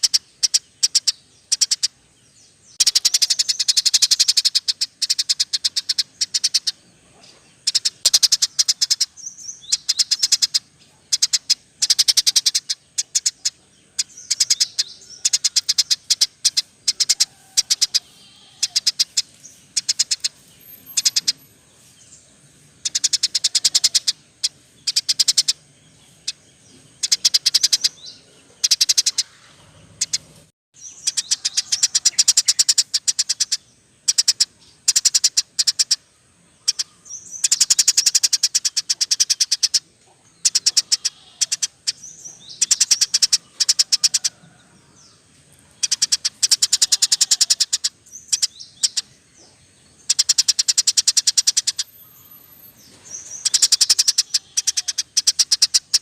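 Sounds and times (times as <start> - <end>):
songbirds chattering trills: 0.0 - 56.0.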